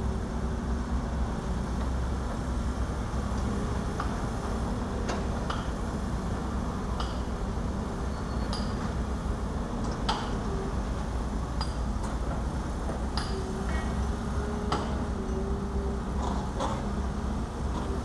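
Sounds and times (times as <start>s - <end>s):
excavator diesel engines running: 0.0s - 18.0s.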